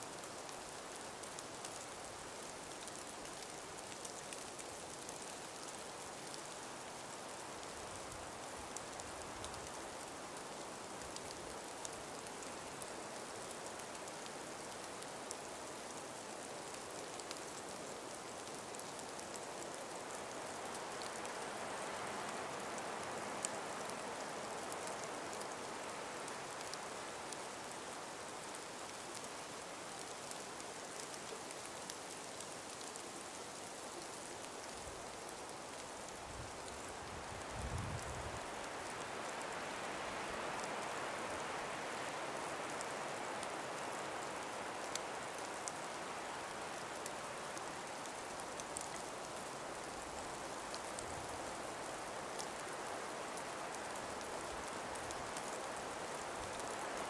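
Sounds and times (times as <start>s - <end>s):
faint breeze through forest: 0.0s - 57.0s
small ticks: 0.2s - 57.0s.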